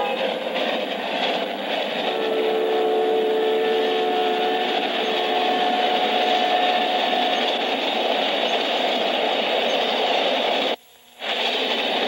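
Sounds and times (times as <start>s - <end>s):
freight train engine and rail noise: 0.0s - 12.0s.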